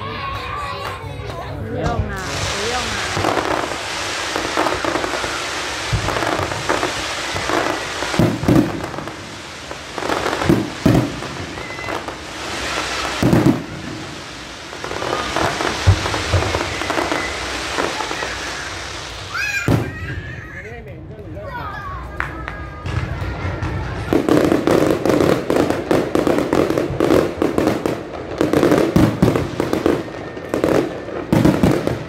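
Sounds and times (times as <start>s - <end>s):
fireworks bangs: 0.0s - 20.6s, 22.0s - 32.0s
fireworks crackling: 0.0s - 32.0s.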